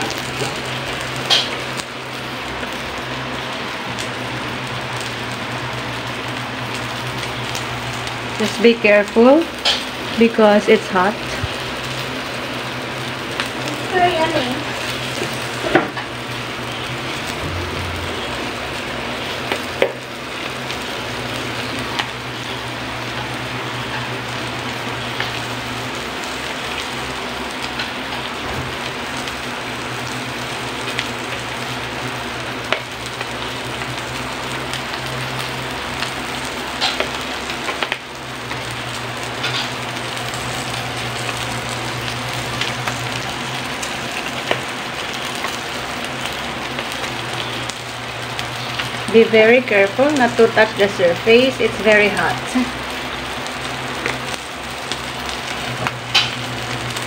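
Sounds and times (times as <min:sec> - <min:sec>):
fish sizzling in oil: 0:00.0 - 0:57.0.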